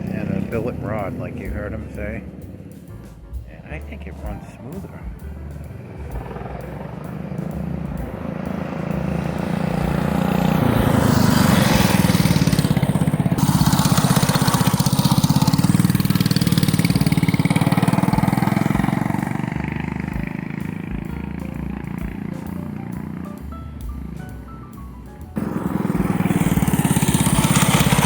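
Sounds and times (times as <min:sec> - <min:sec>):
minibike engine passing by: 0:00.0 - 0:28.0.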